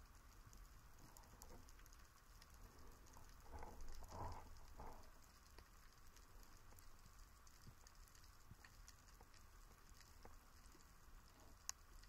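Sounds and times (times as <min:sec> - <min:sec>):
muffled swishes of moving water: 0:00.0 - 0:12.0
underwater crackle of tiny clicks: 0:00.0 - 0:12.0.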